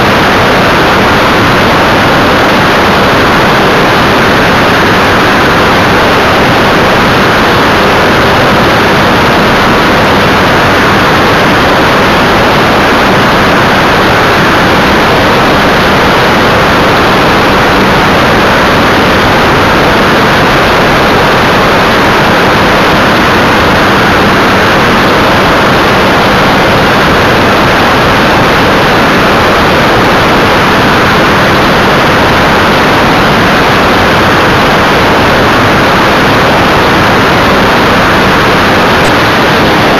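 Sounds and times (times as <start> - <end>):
aircraft engine and propeller drone: 0.0 - 39.9
airflow rushing over camera: 0.0 - 39.9.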